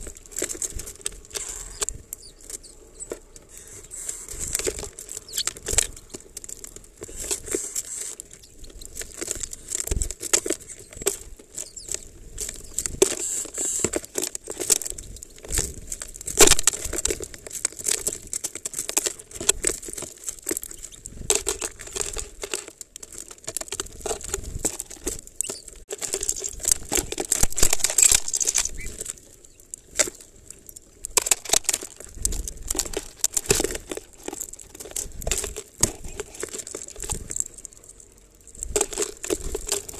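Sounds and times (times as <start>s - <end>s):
seeds rattling in plastic feeder: 0.0s - 39.9s.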